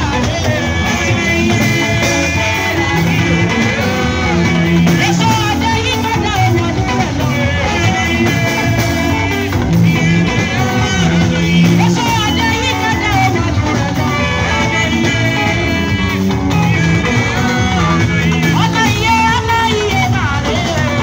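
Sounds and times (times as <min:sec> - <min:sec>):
woman singing into microphone: 0:00.0 - 0:16.2, 0:16.8 - 0:21.0
keyboard accompaniment: 0:00.0 - 0:21.0.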